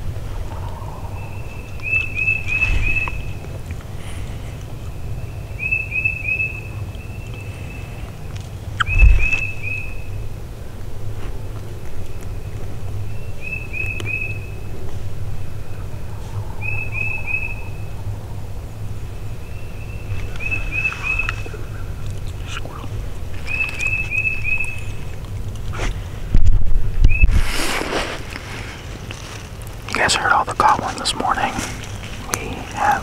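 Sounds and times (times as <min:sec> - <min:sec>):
songbird singing: 0:00.0 - 0:33.0.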